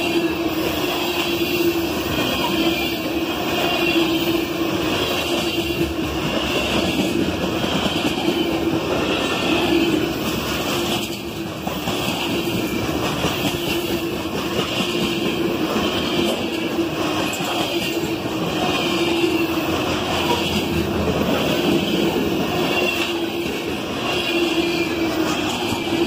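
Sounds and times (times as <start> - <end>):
rumble of train wheels on rails: 0.0 - 26.0.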